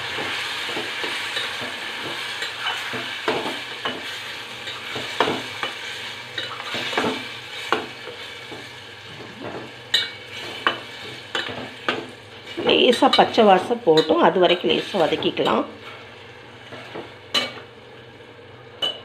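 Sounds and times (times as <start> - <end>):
vegetables sizzling in pot: 0.0 - 19.0.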